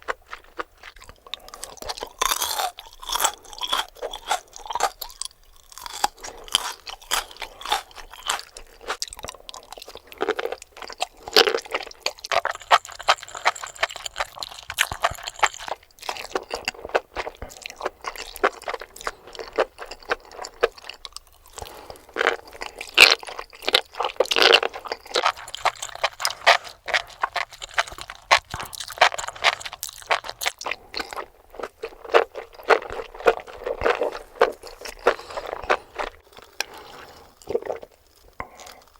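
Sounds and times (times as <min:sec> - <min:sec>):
chewing and crunching mushrooms: 0:00.0 - 0:38.9.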